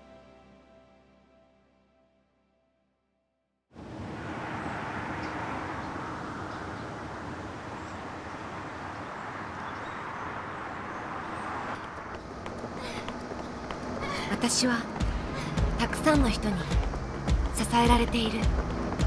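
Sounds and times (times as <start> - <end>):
outdoor ambient noise: 3.7 - 19.0.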